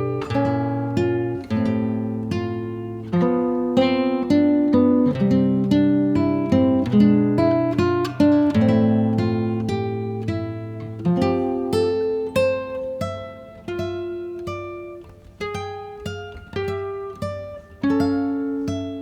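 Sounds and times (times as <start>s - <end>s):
acoustic guitar picking: 0.0s - 19.0s.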